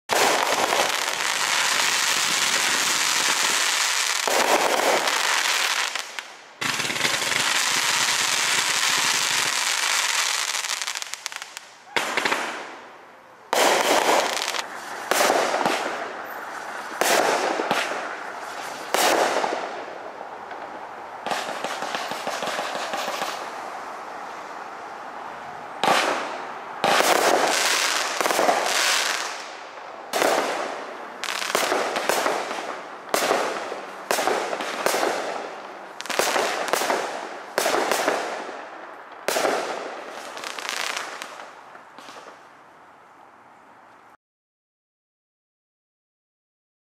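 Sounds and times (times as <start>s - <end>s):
fireworks bangs and crackling: 0.1s - 12.9s, 13.5s - 23.7s, 25.8s - 42.4s.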